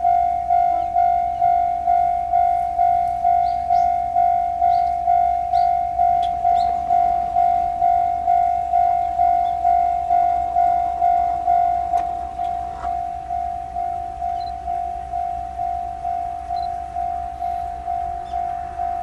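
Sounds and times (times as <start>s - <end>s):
level crossing warning bell: 0.0s - 19.0s.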